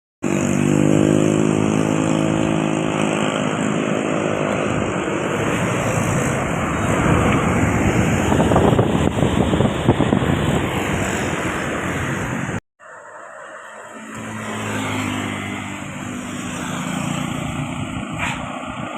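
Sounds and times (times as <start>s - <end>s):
vehicle rushing by: 0.3s - 18.9s
bus engine humming: 1.2s - 18.9s.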